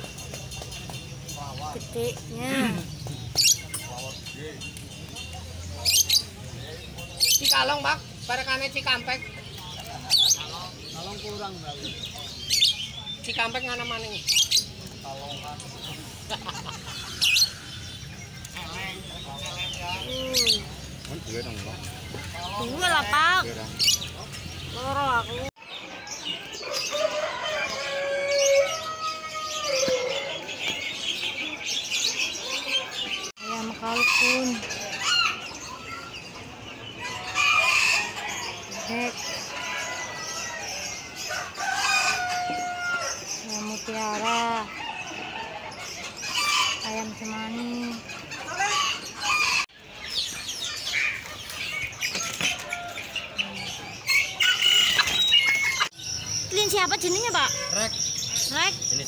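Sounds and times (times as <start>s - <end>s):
caged birds chirping: 0.0s - 59.0s.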